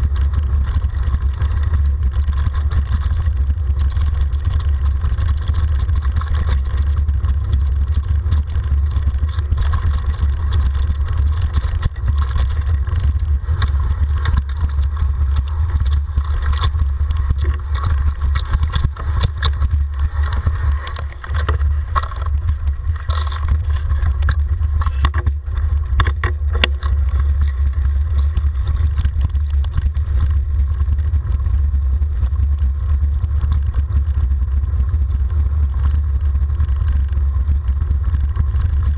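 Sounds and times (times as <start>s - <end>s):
bike rattling and knocking: 0.0s - 38.9s
bike rolling on gravel: 0.0s - 38.9s
wind on microphone: 0.0s - 38.9s.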